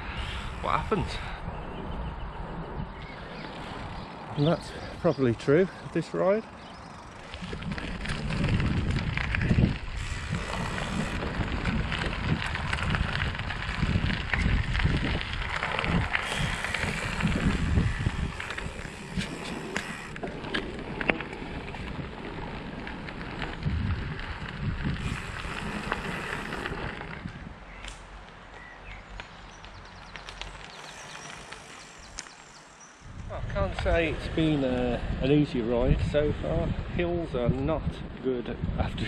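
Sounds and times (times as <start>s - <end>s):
wind buffeting microphone: 0.0s - 27.8s, 29.7s - 39.0s
bike tyres rolling on gravel: 0.0s - 39.0s.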